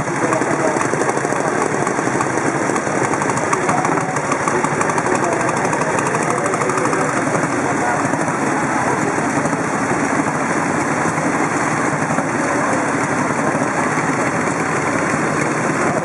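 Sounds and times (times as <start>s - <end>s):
motorcycle engines idling: 0.0s - 16.0s.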